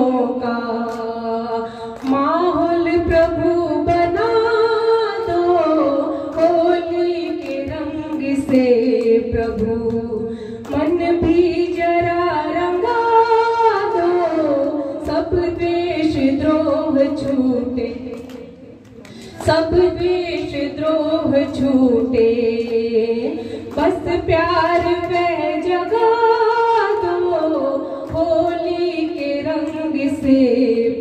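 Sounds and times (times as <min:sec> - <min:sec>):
woman singing devotional song: 0:00.0 - 0:31.0
hand-clapping: 0:00.3 - 0:04.4, 0:05.1 - 0:30.8.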